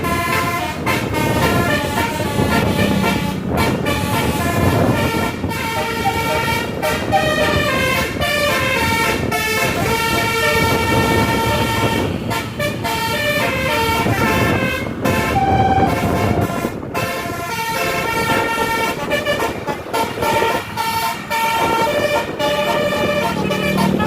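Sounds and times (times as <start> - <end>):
musical bus horn playing a tune: 0.0 - 24.0.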